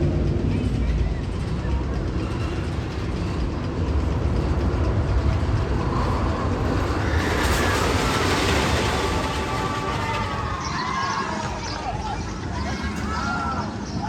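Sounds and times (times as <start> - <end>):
rushing noise: 0.0 - 13.9
roller coaster rumbling on track: 0.0 - 14.0.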